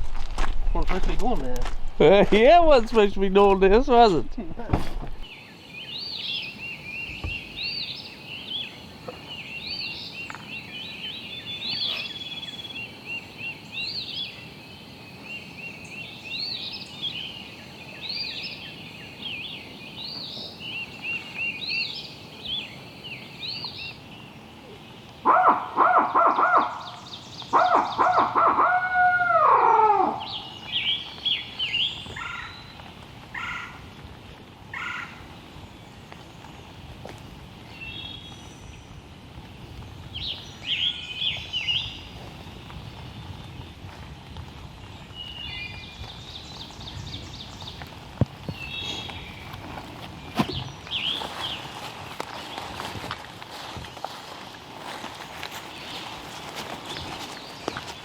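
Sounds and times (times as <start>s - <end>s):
songbird chirping: 0.0s - 33.8s, 44.8s - 58.0s.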